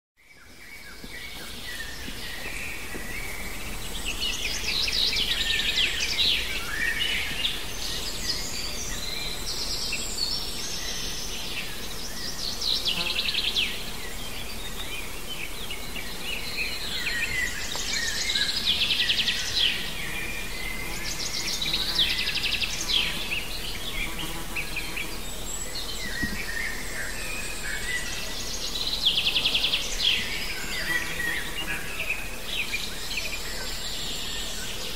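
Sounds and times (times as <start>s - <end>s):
faint outdoor hiss: 0.2s - 34.9s
songbirds singing: 0.2s - 34.9s.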